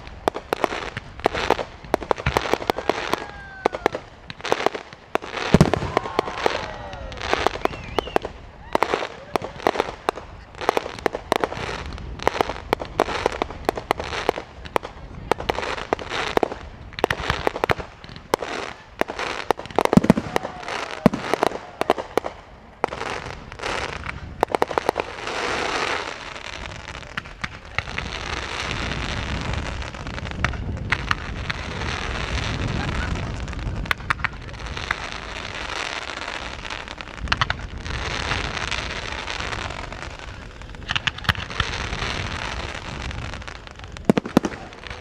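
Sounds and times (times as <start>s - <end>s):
fireworks bangs and cracks: 0.0s - 45.0s
fireworks crackling hiss: 0.0s - 45.0s.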